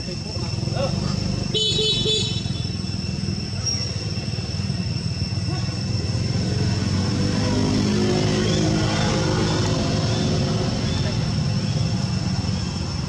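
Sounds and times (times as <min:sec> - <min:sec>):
engine rumbling: 0:00.0 - 0:13.0
insect drone: 0:00.0 - 0:13.0.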